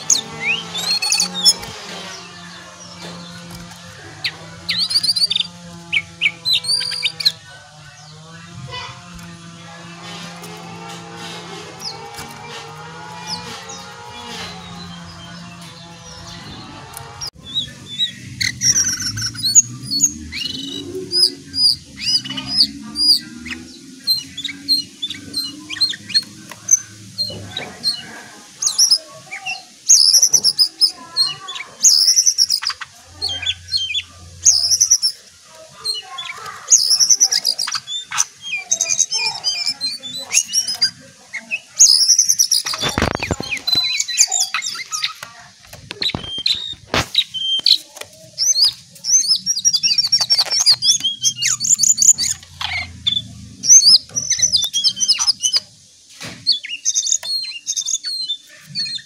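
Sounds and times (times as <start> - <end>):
bird whistling trills: 0.0 - 7.5, 17.4 - 55.7, 56.4 - 59.0.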